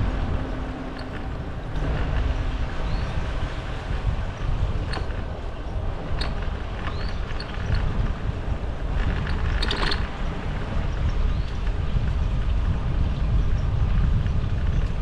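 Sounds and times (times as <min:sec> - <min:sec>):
bicycle rolling rumble: 0:00.0 - 0:15.0
wind buffeting microphone: 0:00.0 - 0:15.0.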